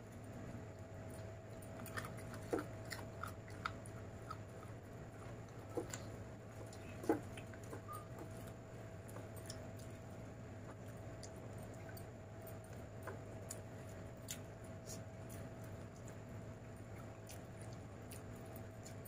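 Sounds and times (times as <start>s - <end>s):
steady low hum: 0.0s - 19.0s
chewing: 0.2s - 19.0s.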